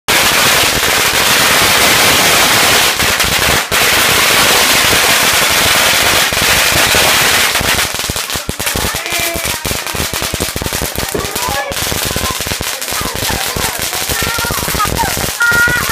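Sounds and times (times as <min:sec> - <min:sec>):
firecrackers crackling: 0:00.1 - 0:15.9.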